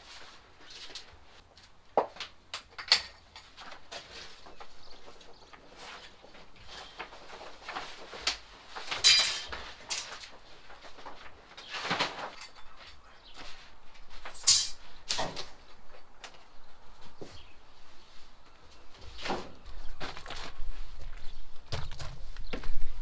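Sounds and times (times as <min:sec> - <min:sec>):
paper and vinyl sheets rustling: 0:00.0 - 0:02.4, 0:03.4 - 0:23.0.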